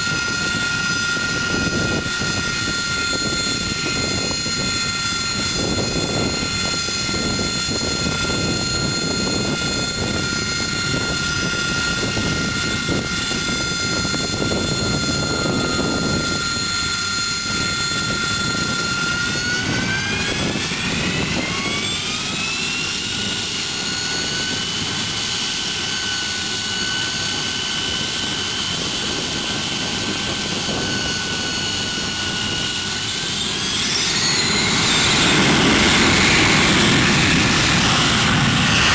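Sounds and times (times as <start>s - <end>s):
aircraft engine whine: 0.0s - 38.9s.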